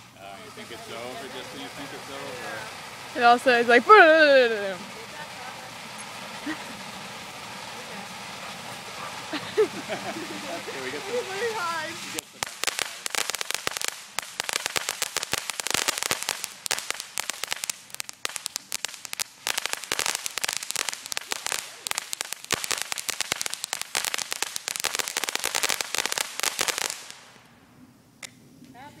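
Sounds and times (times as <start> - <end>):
firework crackling and popping: 0.0 - 28.9.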